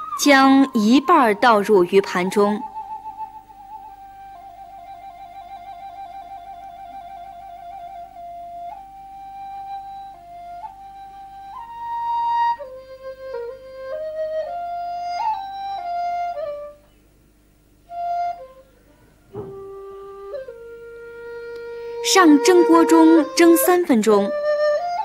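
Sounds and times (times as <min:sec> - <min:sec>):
solo flute melody: 0:00.0 - 0:17.0, 0:17.8 - 0:25.0.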